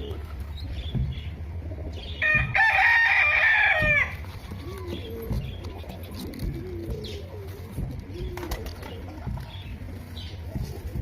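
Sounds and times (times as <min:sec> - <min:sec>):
small birds chirping: 0:00.0 - 0:02.5, 0:04.0 - 0:11.0
pigeons cooing: 0:00.0 - 0:11.0.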